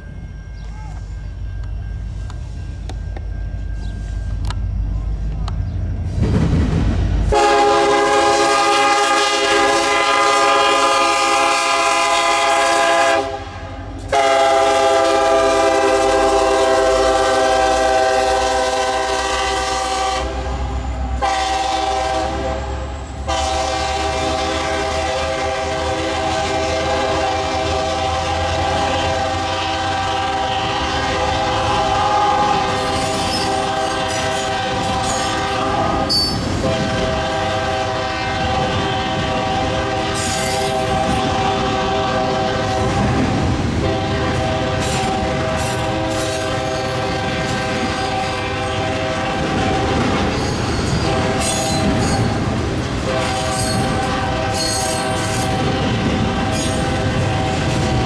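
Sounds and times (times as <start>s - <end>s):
freight train rumbling: 0.0s - 58.0s
locomotive air horn: 7.3s - 58.0s.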